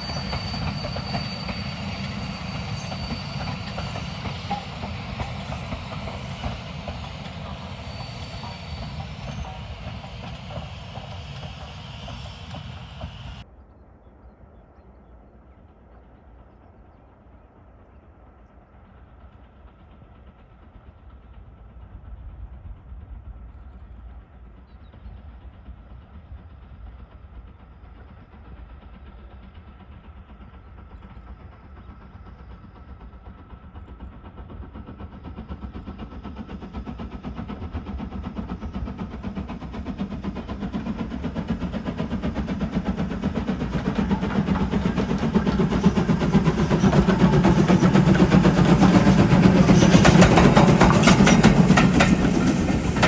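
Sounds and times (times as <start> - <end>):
steam locomotive approaching: 0.0 - 13.6, 14.9 - 53.0.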